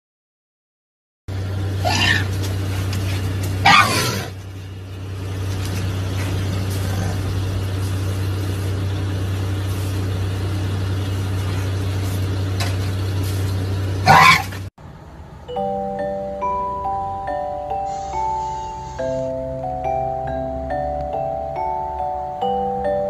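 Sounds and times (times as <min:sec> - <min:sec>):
low mechanical hum: 0:01.3 - 0:23.0.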